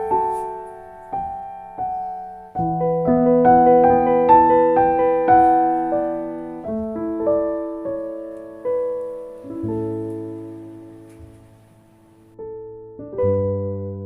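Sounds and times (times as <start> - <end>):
piano playing slow gentle chords: 0.0 - 14.0.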